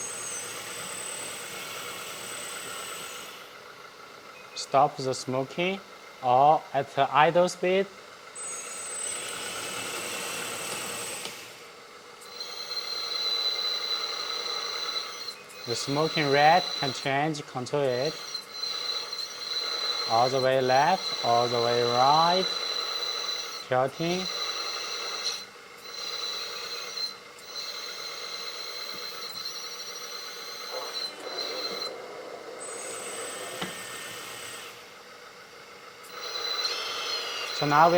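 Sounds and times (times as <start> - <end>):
toy bulldozer motor whining: 0.0 - 3.8, 4.5 - 37.9.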